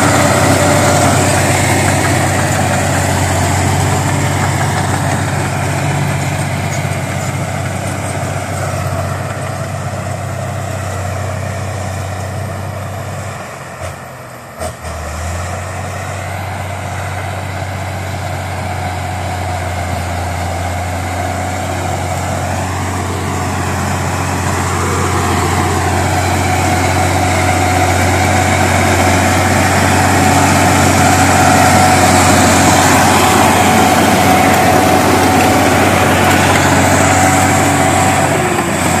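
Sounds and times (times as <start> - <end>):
bulldozer diesel engine under load: 0.0 - 39.0.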